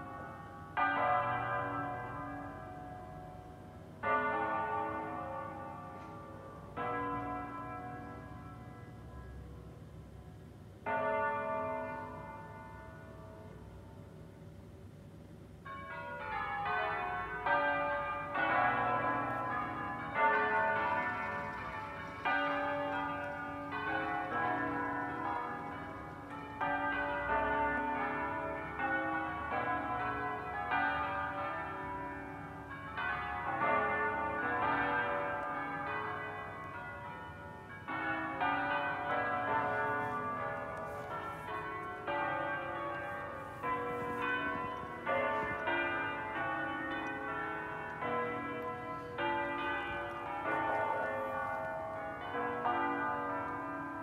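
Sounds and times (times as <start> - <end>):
church bells ringing melodically: 0.0 - 14.2, 15.5 - 54.0.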